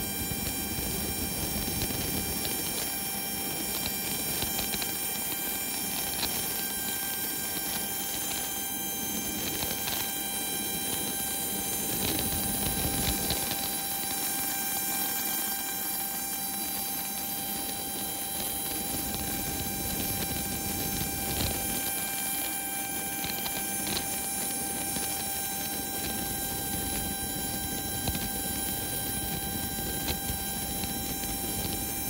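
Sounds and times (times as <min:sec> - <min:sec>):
auxiliary power unit whine: 0:00.0 - 0:32.0.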